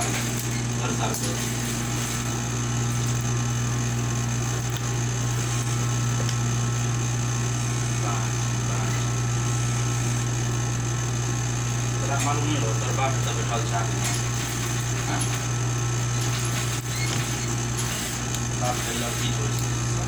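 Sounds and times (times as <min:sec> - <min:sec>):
electric motor hum: 0:00.0 - 0:20.0.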